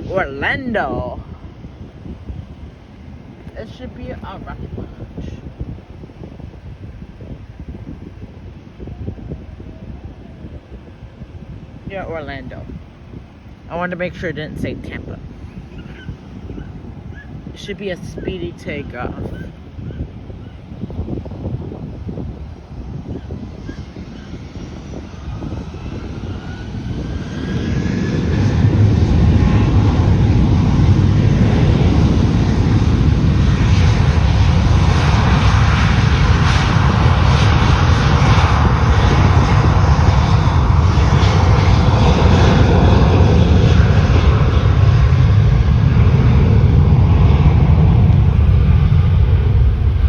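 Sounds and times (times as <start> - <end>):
jet engines taking off: 0.0 - 50.0.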